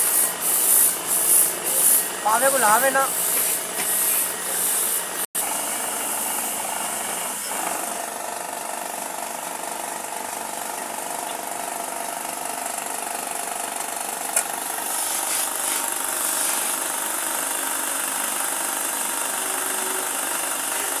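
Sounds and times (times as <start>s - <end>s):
power tool running on wood: 0.0s - 13.3s, 14.5s - 21.0s.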